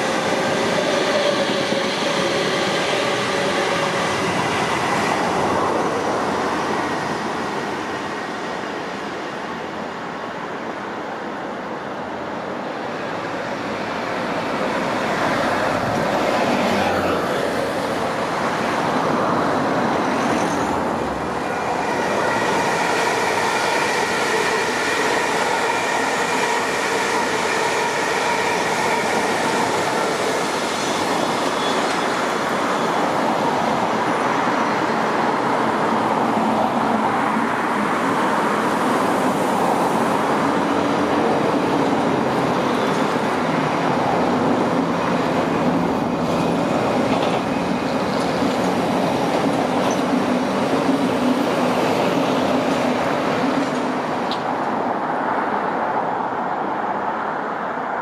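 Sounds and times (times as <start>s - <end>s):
train traction whine: 0.0s - 10.1s, 11.8s - 56.4s
wheels rumbling on rail: 0.0s - 57.7s
train passing with low hum: 0.0s - 58.0s.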